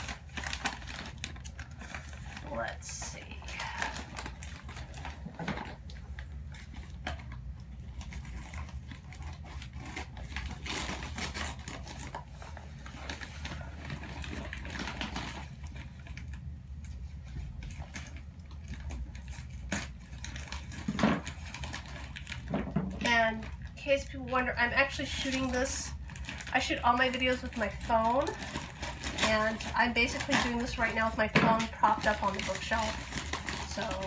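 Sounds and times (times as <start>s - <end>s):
packing material rustling: 0.0s - 23.9s, 24.7s - 34.0s.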